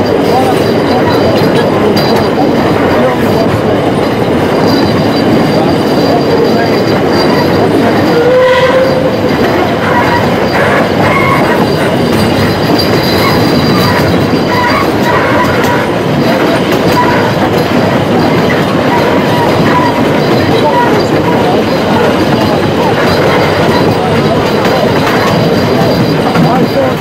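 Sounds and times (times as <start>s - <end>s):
train wheels rumbling and rattling: 0.0s - 27.0s
wheel squeals: 0.3s - 26.9s.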